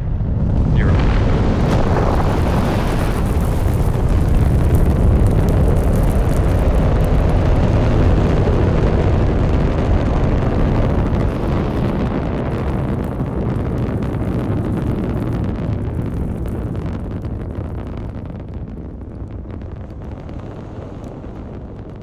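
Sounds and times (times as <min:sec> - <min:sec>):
rocket engines roaring at liftoff: 0:00.0 - 0:22.0.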